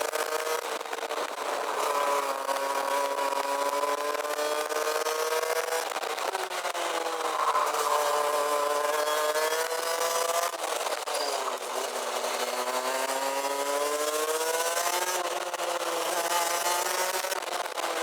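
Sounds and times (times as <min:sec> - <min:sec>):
kart engine accelerating: 0:00.0 - 0:18.0.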